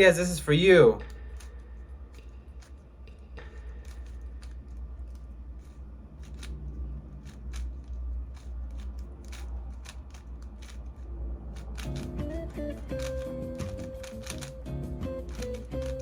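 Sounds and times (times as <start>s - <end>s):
steady low hum: 0.0s - 16.0s
speed cube plastic clicks: 1.0s - 16.0s.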